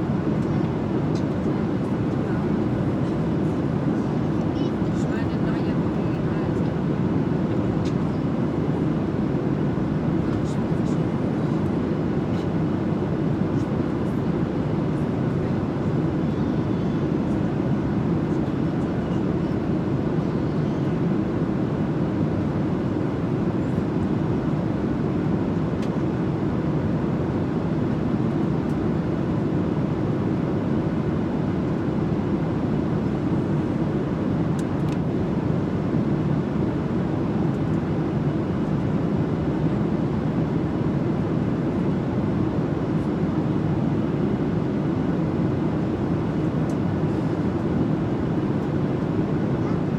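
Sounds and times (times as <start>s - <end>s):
airliner cabin engine drone: 0.0s - 49.9s.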